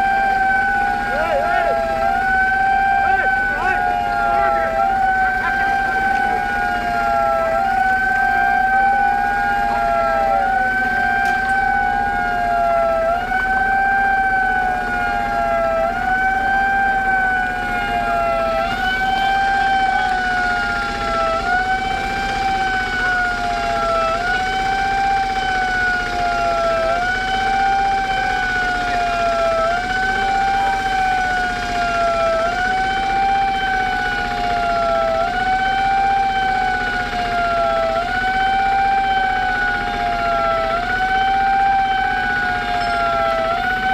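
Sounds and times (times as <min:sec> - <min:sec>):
emergency siren wailing: 0:00.0 - 0:43.9.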